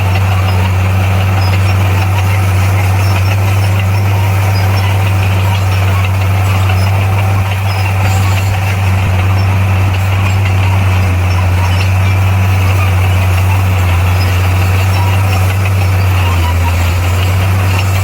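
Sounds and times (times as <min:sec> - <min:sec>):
bulldozer diesel engine droning: 0:00.0 - 0:18.0.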